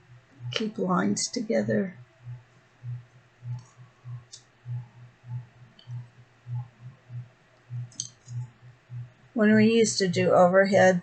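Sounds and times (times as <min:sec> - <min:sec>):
soft low thumps: 0:00.0 - 0:11.0.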